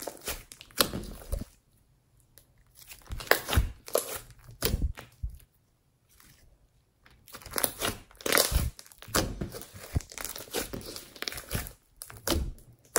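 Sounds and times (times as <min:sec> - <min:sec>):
slime crackling and squelching: 0:00.0 - 0:05.5, 0:07.1 - 0:12.9.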